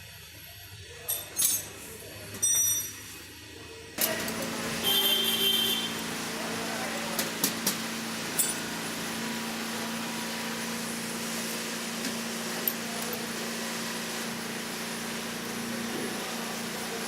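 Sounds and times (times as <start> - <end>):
mechanical hum with hiss: 0.0 - 17.0.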